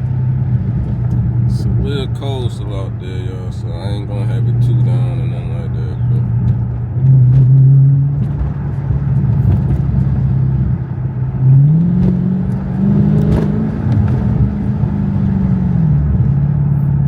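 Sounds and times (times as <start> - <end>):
car engine droning inside cabin: 0.0 - 17.0.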